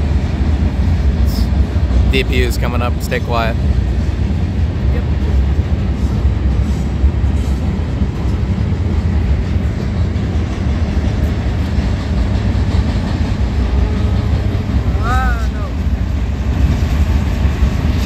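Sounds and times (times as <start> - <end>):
locomotive approaching: 0.0 - 18.0
train cars rumbling on bridge: 0.0 - 18.0.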